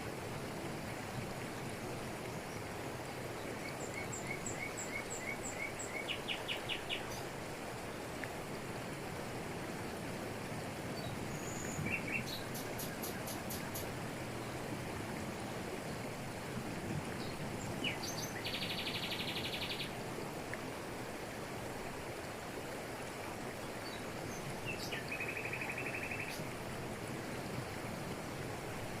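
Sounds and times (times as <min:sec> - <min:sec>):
waterfall rushing over rocks: 0:00.0 - 0:29.0.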